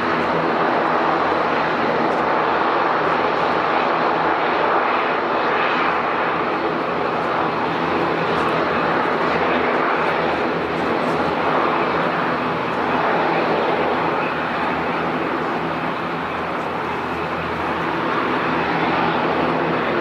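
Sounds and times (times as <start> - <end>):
airplane engines running: 0.0 - 20.0.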